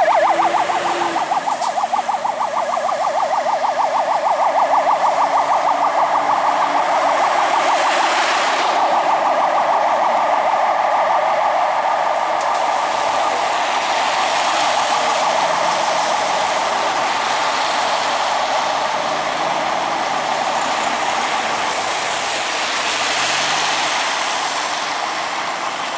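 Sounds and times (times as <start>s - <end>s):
tyres hissing on wet road: 0.0s - 10.2s, 11.8s - 25.9s
fire engine yelp siren: 0.0s - 25.9s.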